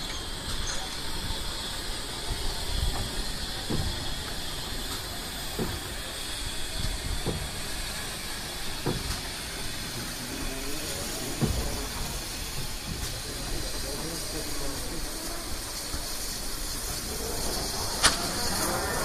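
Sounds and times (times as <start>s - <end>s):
steady hiss of steam: 0.0s - 19.0s
steam locomotive moving slowly: 0.0s - 19.0s.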